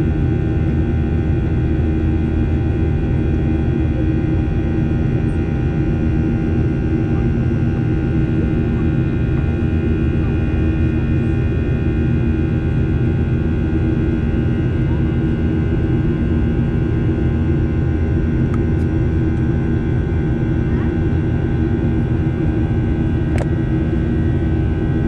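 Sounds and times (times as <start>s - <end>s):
aircraft cabin engine drone: 0.0s - 25.0s.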